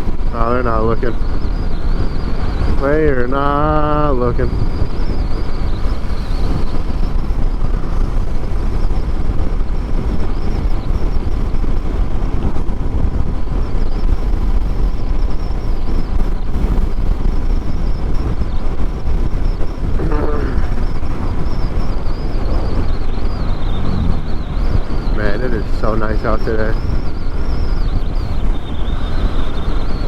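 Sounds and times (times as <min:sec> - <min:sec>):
motorcycle road noise: 0:00.0 - 0:30.0
wind buffeting microphone: 0:00.0 - 0:30.0
wind rush: 0:00.0 - 0:30.0.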